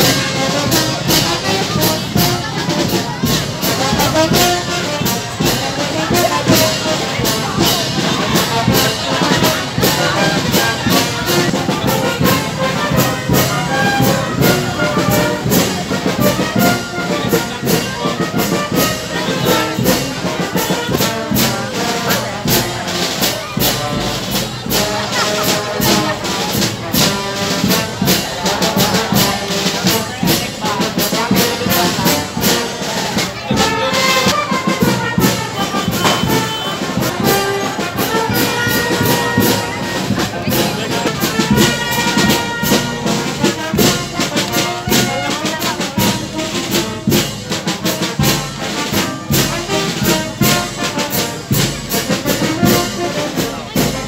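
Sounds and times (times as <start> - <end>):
marching brass band: 0.0 - 54.0.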